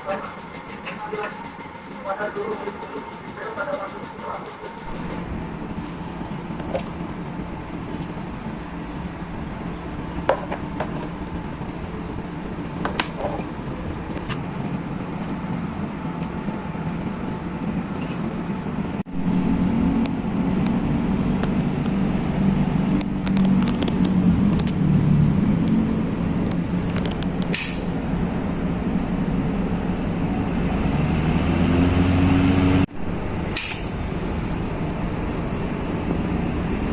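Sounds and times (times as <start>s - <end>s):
exhaust fan humming: 0.0s - 36.9s.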